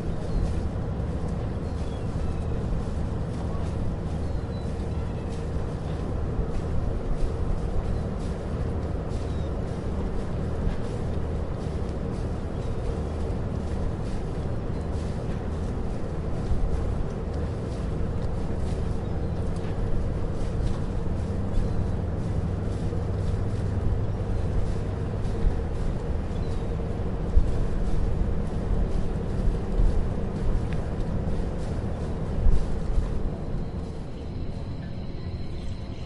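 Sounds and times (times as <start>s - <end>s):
low engine drone: 0.0s - 36.0s.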